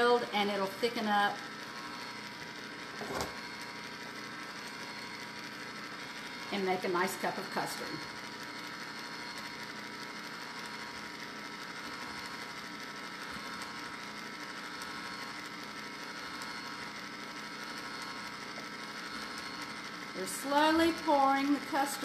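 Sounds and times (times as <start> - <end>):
ice cream maker motor hum: 0.0 - 22.0.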